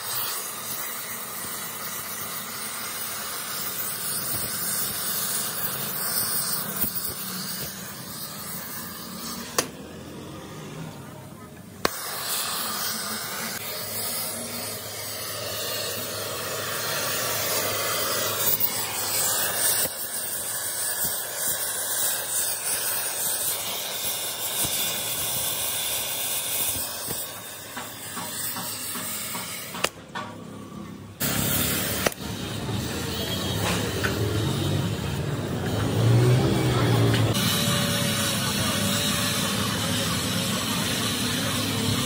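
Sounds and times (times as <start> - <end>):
gas torch flame hissing: 0.0 - 42.0.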